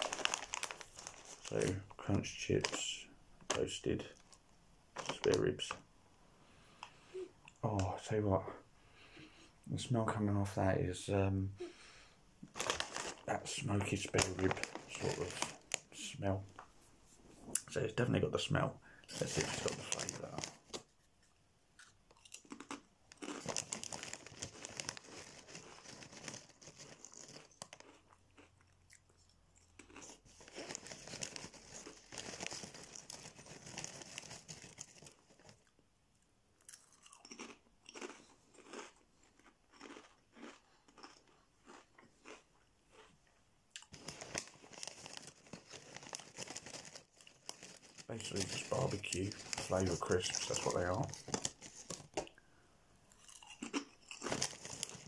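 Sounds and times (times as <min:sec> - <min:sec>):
crisps crunching: 0:00.0 - 0:05.8, 0:12.4 - 0:16.7, 0:18.5 - 0:20.9, 0:21.8 - 0:35.8, 0:36.6 - 0:52.4, 0:53.1 - 0:55.0.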